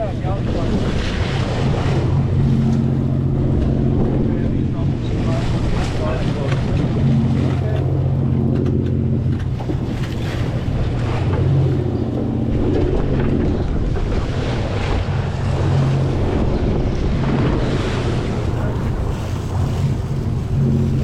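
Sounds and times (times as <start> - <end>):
boat engine droning: 0.0 - 21.0
sea washing along hull: 0.0 - 21.0
wind buffeting microphone: 0.0 - 21.0.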